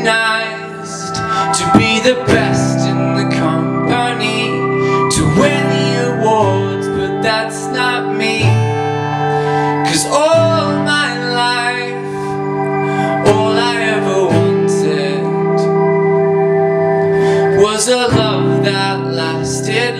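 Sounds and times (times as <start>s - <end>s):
man singing: 0.0s - 15.7s, 17.2s - 19.9s
strummed acoustic guitar: 0.0s - 16.2s, 17.1s - 19.9s.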